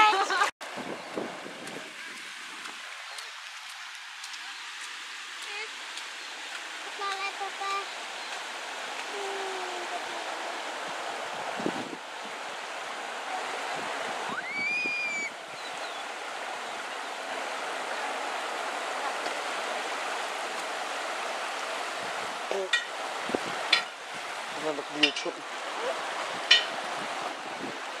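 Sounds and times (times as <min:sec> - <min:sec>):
river running over stones: 0:00.0 - 0:28.0.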